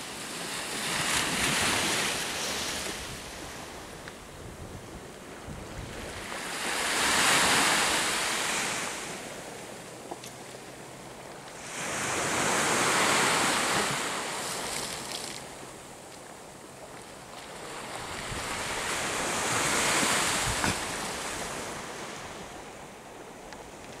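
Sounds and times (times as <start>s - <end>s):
small sea waves breaking on shore: 0.0s - 24.0s.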